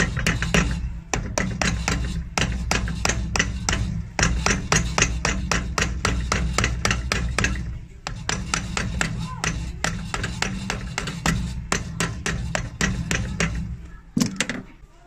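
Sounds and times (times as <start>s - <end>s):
hammer tapping on nails: 0.0s - 14.6s.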